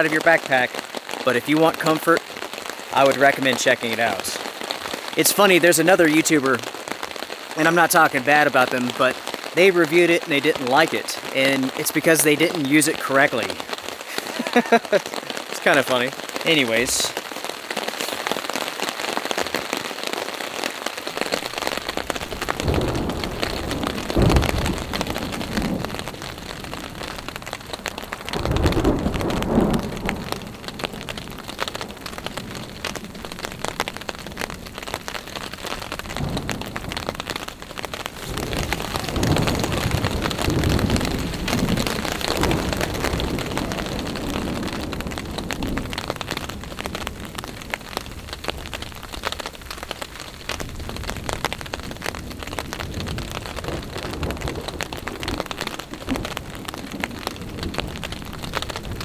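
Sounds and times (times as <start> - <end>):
rain on a tarp: 0.0 - 59.0
thunder rumbling: 0.0 - 59.0.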